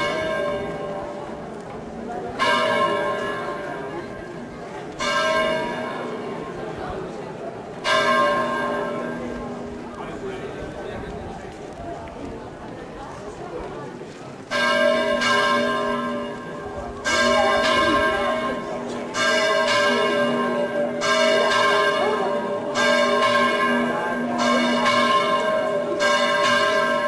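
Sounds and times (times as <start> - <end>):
church bells ringing: 0.0 - 10.0, 14.5 - 27.0.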